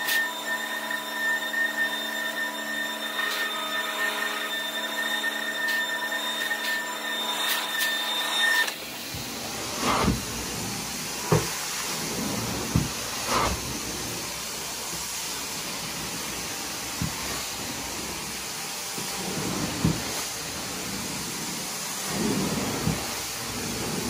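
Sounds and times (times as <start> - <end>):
vacuum motor whine: 0.0 - 24.0.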